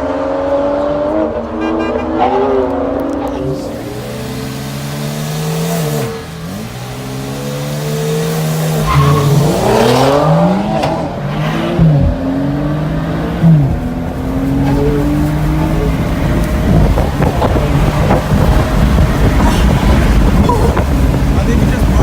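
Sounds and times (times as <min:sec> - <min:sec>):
car engines racing: 0:00.0 - 0:22.0.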